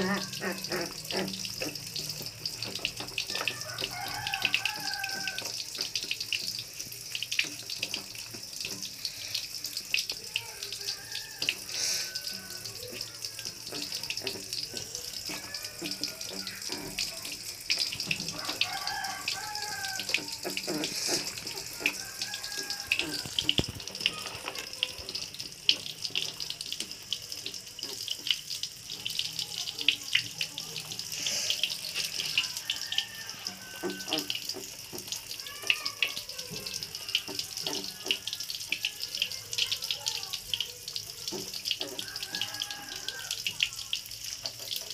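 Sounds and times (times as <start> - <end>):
water splashing in plastic tub: 0.0 - 44.9.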